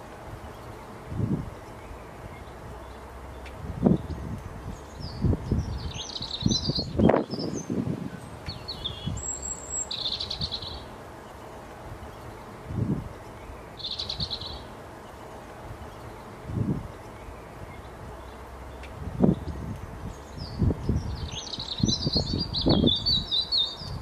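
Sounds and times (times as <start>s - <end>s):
buzzy chirping trills: 0.0s - 24.0s
songbirds chirping: 0.0s - 24.0s.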